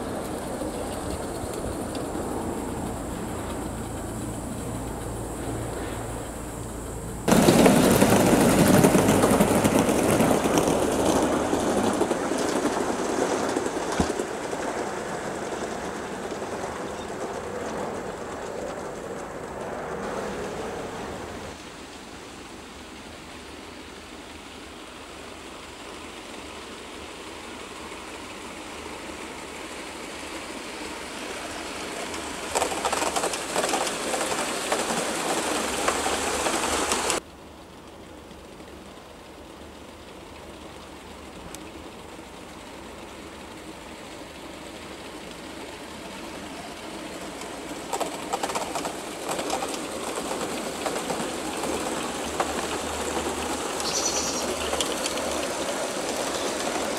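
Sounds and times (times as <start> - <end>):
model train wheels clattering on track: 0.0 - 20.7, 23.4 - 37.2, 38.0 - 56.9.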